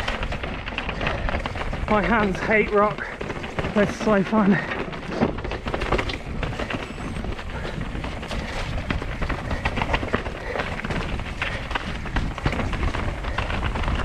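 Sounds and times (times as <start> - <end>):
bike chain and frame rattling: 0.0 - 14.0
bike tyres clattering on stone: 0.0 - 14.0
wind rumble on microphone: 0.0 - 14.0.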